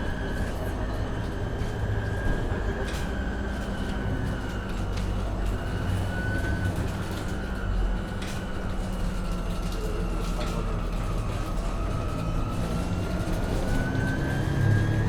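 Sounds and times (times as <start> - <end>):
bus drive and road rumble: 0.0 - 15.0.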